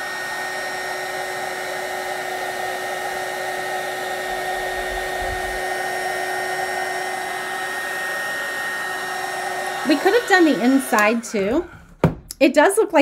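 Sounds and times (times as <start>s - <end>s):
heat gun blowing with whine: 0.0s - 12.2s.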